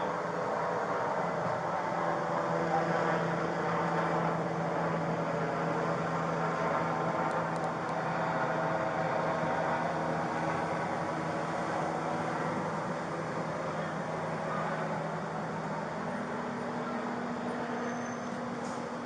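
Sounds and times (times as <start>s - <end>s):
car engine and road drone: 0.0s - 19.0s.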